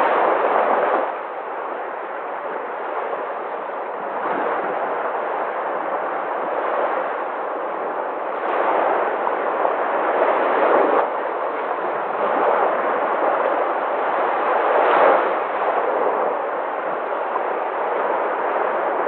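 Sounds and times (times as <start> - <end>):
sea waves breaking: 0.0 - 19.0.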